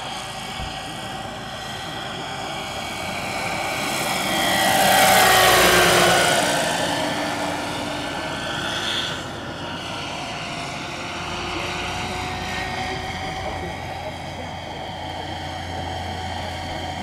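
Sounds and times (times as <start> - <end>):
model helicopter rotor and motor: 0.0 - 17.0.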